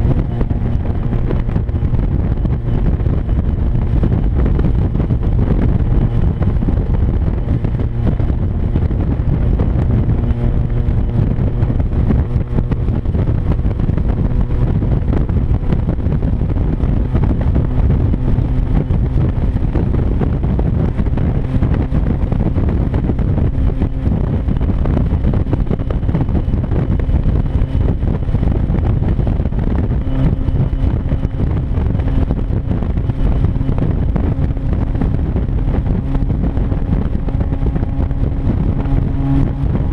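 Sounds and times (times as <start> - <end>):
loud unmuffled car exhaust: 0.0 - 39.9.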